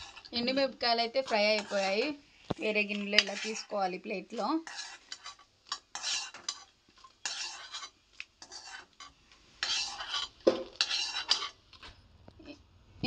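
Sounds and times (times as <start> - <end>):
metal spoon scraping a metal pot: 0.0 - 11.9.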